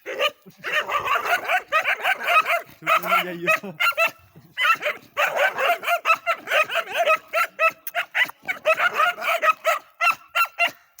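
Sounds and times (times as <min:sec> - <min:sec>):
dog yipping: 0:00.2 - 0:10.8.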